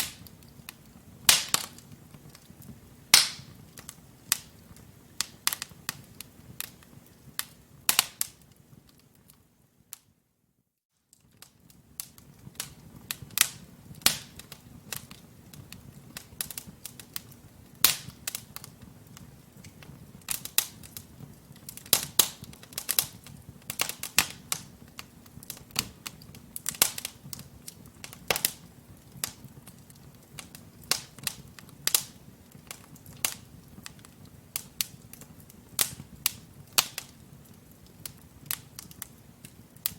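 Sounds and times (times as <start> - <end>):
low rumble of flames: 0.0 - 9.8, 11.3 - 39.9
logs crackling in fireplace: 0.0 - 10.2, 11.0 - 39.9.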